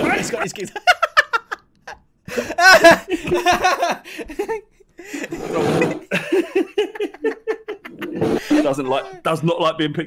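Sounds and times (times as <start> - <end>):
men laughing hard: 0.0 - 9.2.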